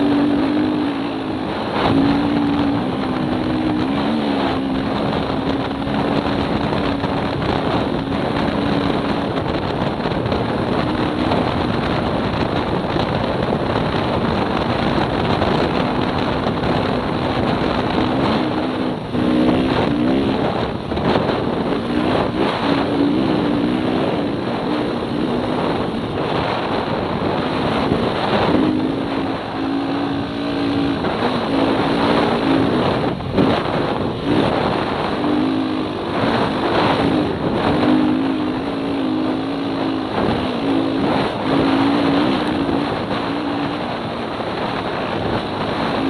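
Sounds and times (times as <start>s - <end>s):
dirt bike engine running hard: 0.0s - 46.0s
wind noise on microphone: 0.0s - 46.0s.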